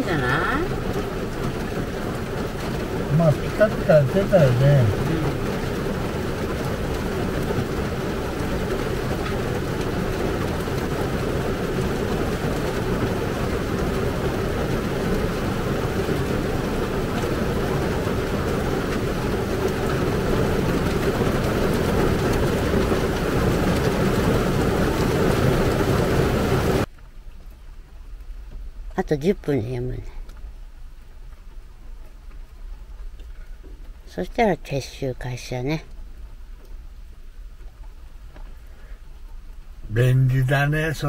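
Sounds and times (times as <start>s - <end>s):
heavy rain on car roof: 0.0s - 41.0s.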